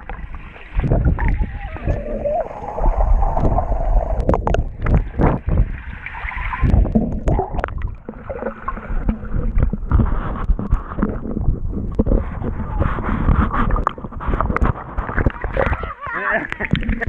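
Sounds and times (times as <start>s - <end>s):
underwater sloshing and rumbling: 0.0s - 17.0s.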